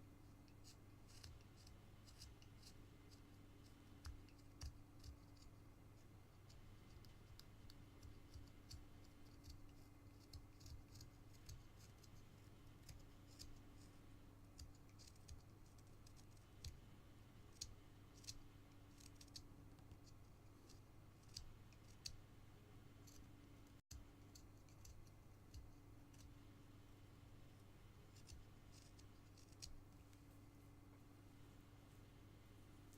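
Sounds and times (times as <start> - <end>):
knife carving wood: 0.0 - 16.8, 17.5 - 22.3, 23.0 - 26.5, 28.0 - 30.1.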